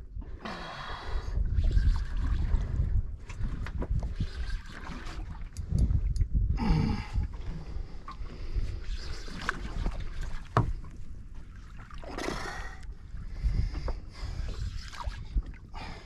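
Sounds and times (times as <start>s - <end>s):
wind buffeting microphone: 1.0s - 11.3s, 12.5s - 16.0s
water sloshing against boat hull: 1.4s - 6.2s, 7.2s - 15.8s.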